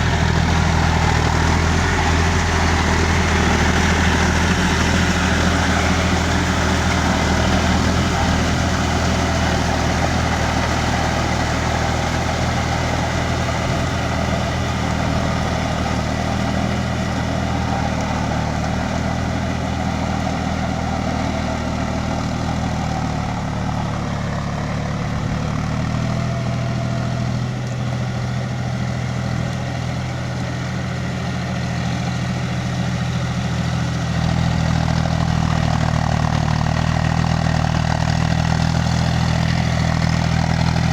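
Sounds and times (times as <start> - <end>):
diesel tractor engine idling: 0.0 - 40.9.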